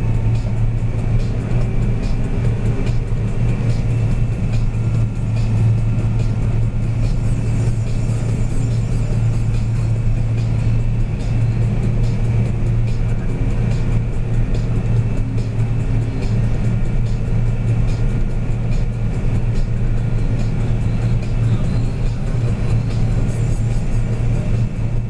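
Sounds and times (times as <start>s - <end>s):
combine harvester engine drone: 0.0s - 25.0s.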